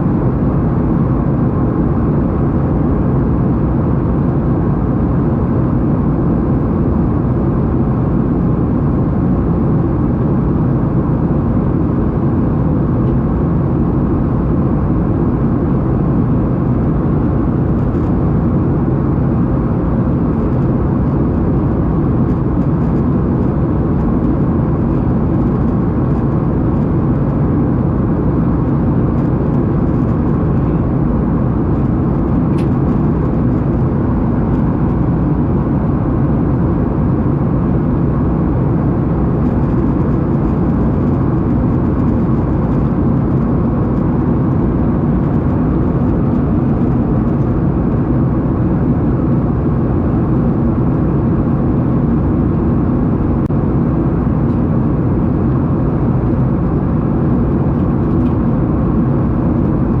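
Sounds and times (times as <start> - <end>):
airliner cabin drone: 0.0 - 60.0.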